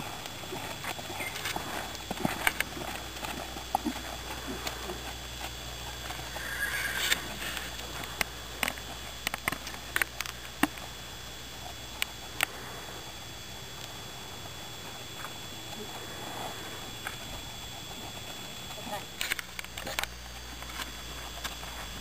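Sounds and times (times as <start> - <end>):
horse hooves on sand: 0.0 - 22.0.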